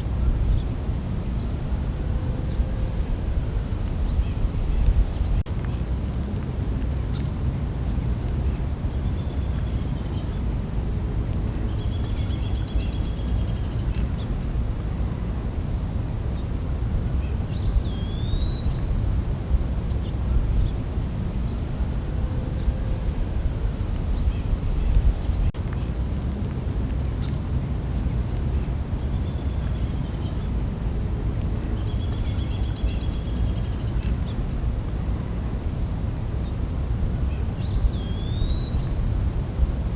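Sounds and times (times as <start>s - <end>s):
insect high drone: 0.0s - 25.6s, 26.2s - 39.9s
cricket-like chirps: 0.0s - 39.9s.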